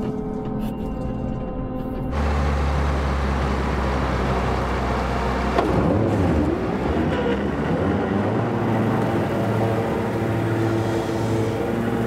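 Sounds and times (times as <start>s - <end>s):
diesel engine running: 2.1s - 12.0s.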